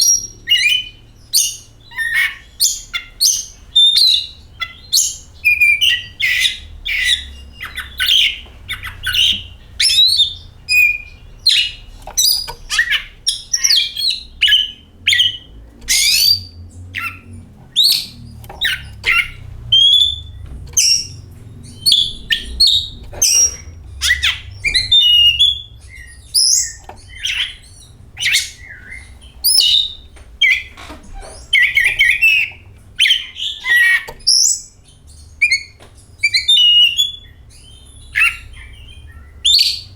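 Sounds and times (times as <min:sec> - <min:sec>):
faint low rumble: 0:00.0 - 0:33.8
bird singing varied song: 0:00.0 - 0:39.9.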